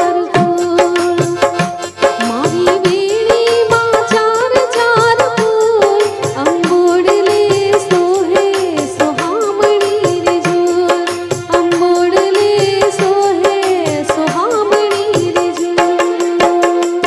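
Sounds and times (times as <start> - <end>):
steady percussion beat: 0.0 - 17.0
woman singing into microphone: 0.0 - 17.0.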